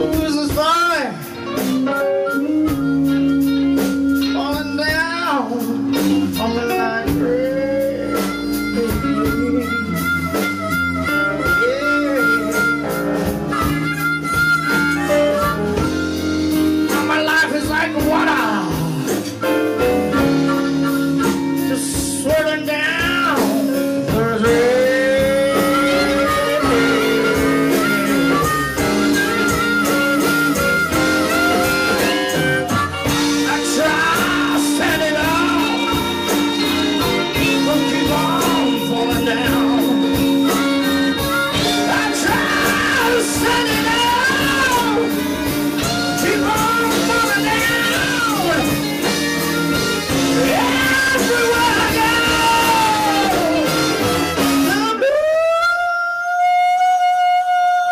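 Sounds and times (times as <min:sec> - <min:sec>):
electric guitar lead line bending: 0:00.0 - 0:55.9
live blues band playing: 0:00.0 - 0:57.9.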